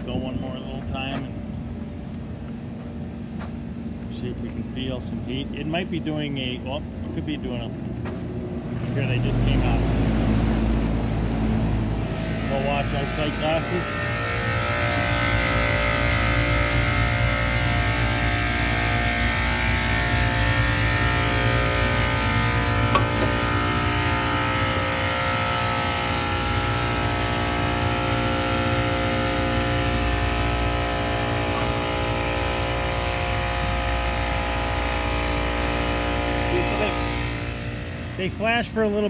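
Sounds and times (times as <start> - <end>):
air conditioning unit humming: 0.0 - 39.0.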